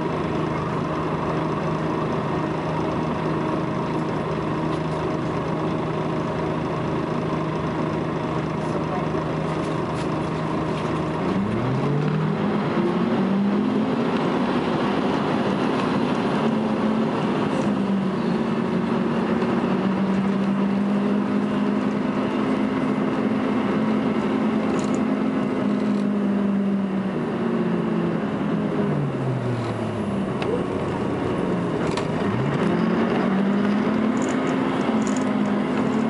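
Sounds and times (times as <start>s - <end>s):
bus diesel engine revving: 0.0s - 36.0s.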